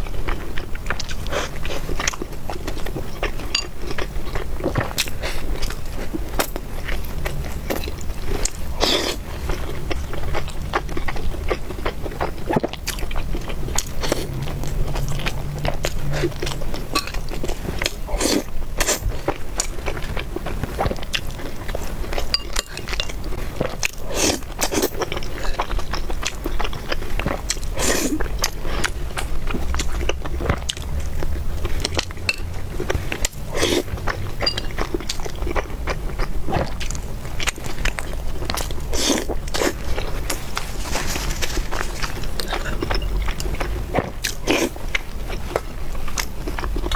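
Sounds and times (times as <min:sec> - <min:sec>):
person chewing food: 0:00.0 - 0:46.9
steady low hum: 0:00.0 - 0:46.9.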